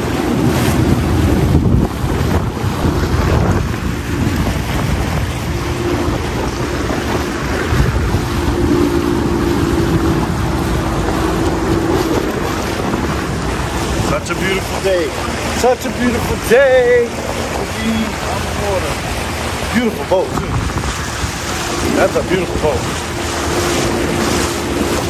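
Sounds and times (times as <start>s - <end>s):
jet ski engine hum: 0.0s - 25.0s
water rushing off hull: 0.0s - 25.0s
wind noise on microphone: 0.0s - 25.0s.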